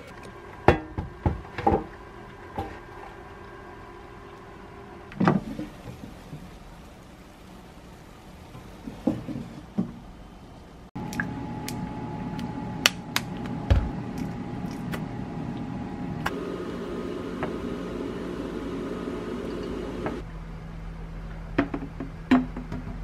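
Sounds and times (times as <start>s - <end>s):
steady hum: 0.0s - 21.6s.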